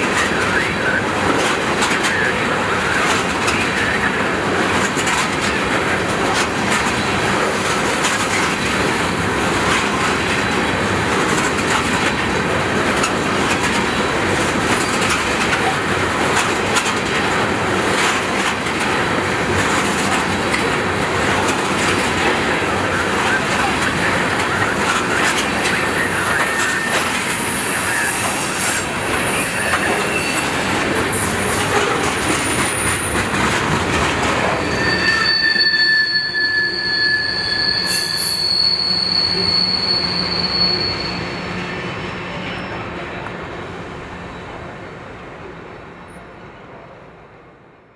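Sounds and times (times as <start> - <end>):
wheels squealing on rails: 0.0 - 17.3, 19.6 - 33.4, 34.1 - 43.2
train wheels rumbling: 0.0 - 44.6.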